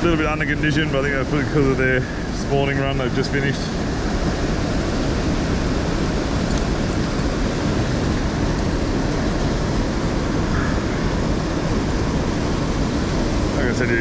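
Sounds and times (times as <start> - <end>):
fast-flowing river water rushing: 0.0 - 14.0.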